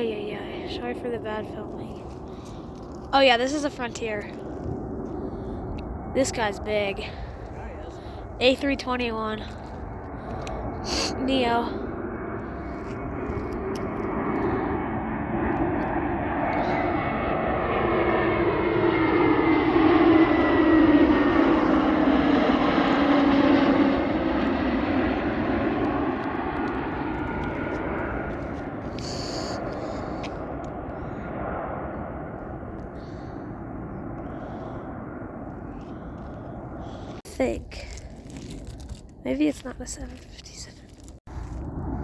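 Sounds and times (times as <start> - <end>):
jet airliner passing: 0.0 - 42.0.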